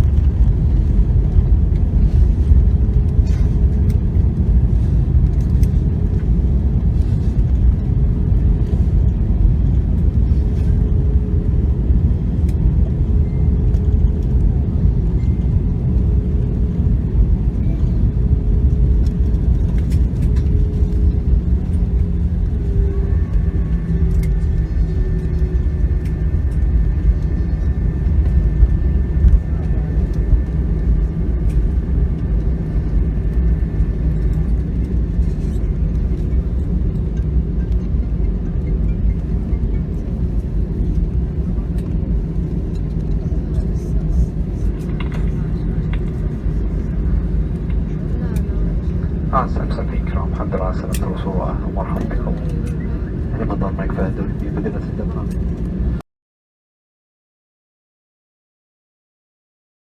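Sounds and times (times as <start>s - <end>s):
airliner engines and wheels rumbling: 0.0s - 56.0s.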